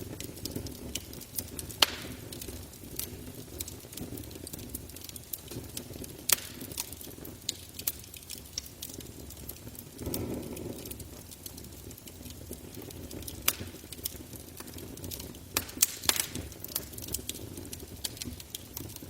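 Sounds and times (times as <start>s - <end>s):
pops and snaps of burning wood: 0.0s - 19.0s
wood fire crackling: 0.0s - 19.0s.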